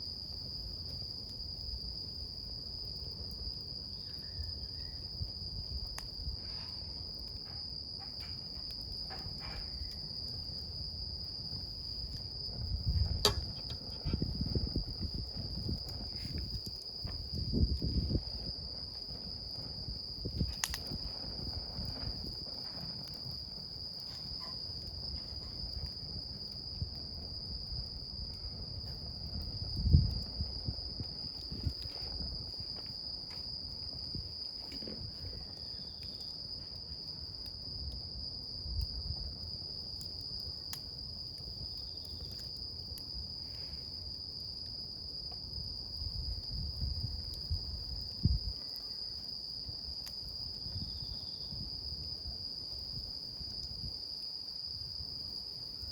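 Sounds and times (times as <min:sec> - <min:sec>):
high-pitched insect trill: 0:00.0 - 0:55.9
campfire crackling and popping: 0:00.1 - 0:50.8.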